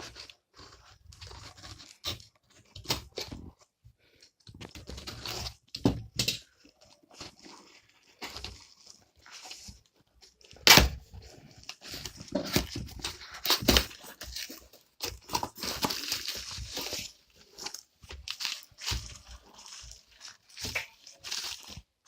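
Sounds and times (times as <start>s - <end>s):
packaging crinkling and tearing: 0.0s - 3.4s, 4.6s - 22.0s.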